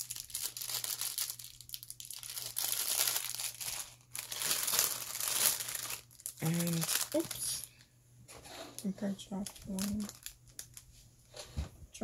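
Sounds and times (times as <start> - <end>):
plastic packaging crinkling: 0.0 - 7.8, 8.8 - 11.0.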